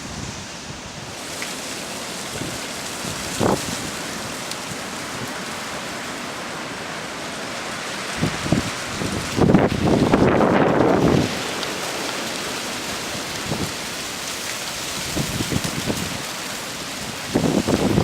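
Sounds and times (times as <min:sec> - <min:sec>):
wind buffeting microphone: 0:00.0 - 0:01.2, 0:02.1 - 0:05.6, 0:07.3 - 0:18.0
strong gusting wind: 0:00.0 - 0:18.0.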